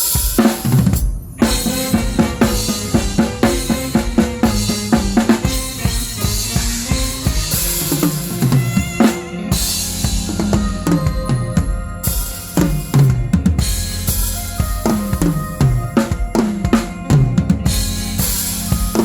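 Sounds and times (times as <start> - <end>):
drum kit playing: 0.0 - 19.0
bass and keyboard notes: 1.4 - 19.0.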